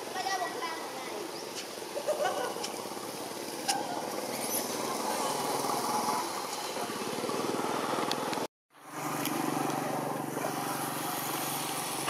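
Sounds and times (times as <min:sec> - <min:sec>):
motor engine running: 0:02.0 - 0:12.0.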